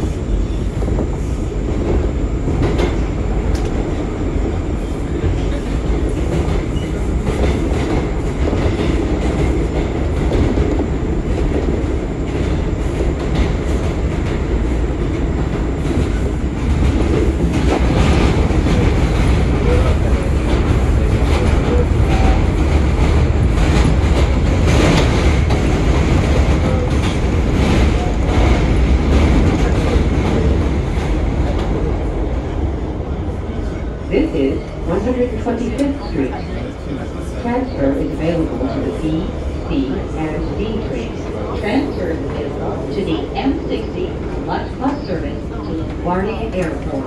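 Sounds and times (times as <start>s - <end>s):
subway train rumbling in tunnel: 0.0s - 47.0s.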